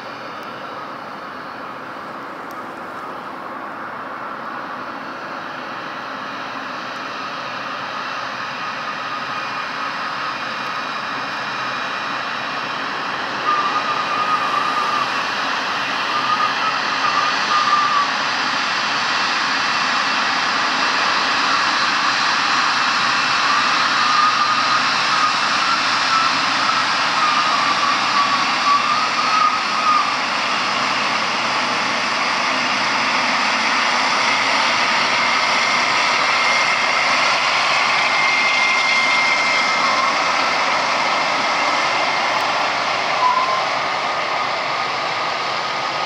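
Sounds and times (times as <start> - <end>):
jet engines whining: 0.0 - 46.0.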